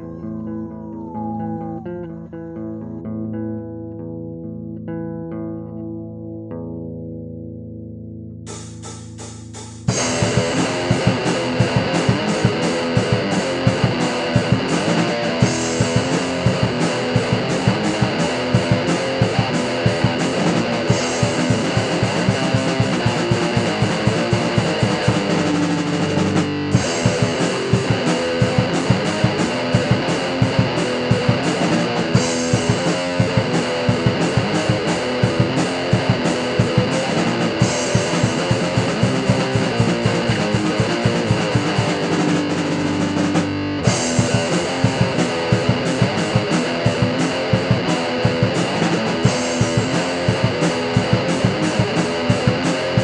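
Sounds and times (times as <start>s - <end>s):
black metal song: 0.0s - 53.0s
distorted electric guitars: 0.0s - 53.0s
fast dense drumming: 8.6s - 53.0s.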